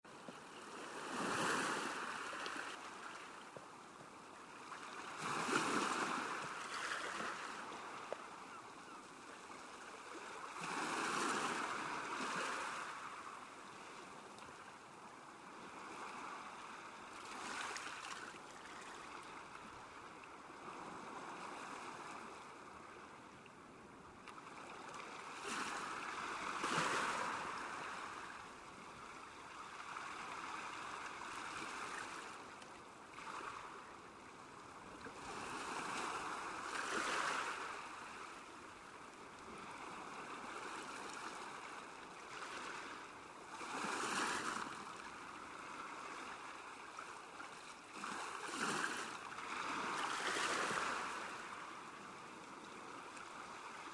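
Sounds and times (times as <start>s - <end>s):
small waves lapping on shore: 0.1s - 53.9s.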